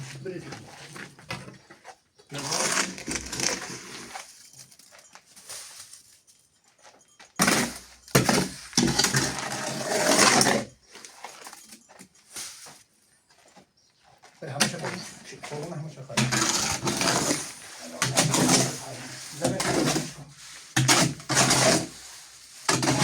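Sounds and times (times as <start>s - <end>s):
tool scraping wet mortar: 0.0s - 4.5s, 7.4s - 12.7s, 14.1s - 23.0s.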